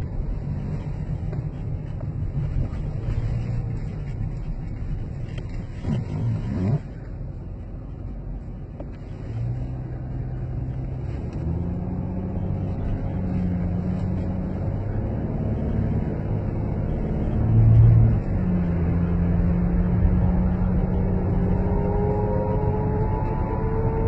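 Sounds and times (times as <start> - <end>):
car engine droning with whine: 0.0 - 24.0.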